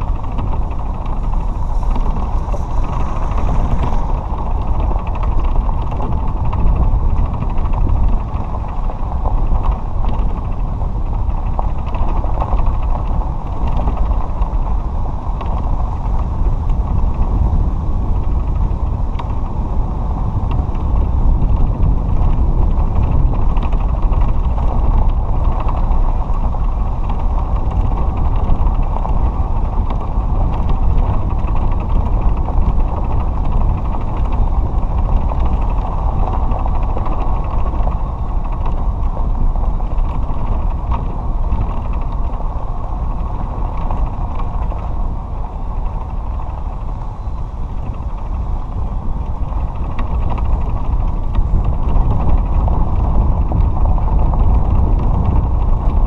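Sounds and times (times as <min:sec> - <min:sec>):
cart knocking and rattling: 0:00.0 - 0:56.0
cart wheels rumbling on gravel: 0:00.0 - 0:56.0.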